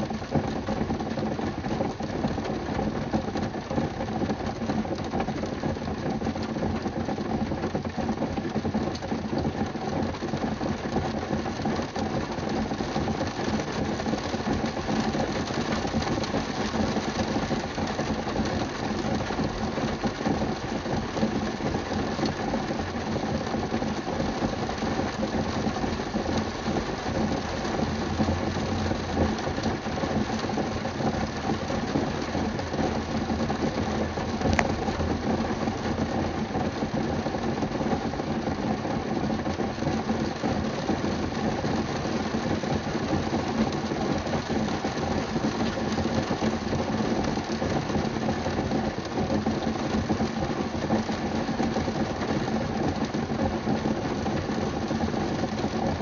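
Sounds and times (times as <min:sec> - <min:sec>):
rain on a car roof: 0:00.0 - 0:56.0.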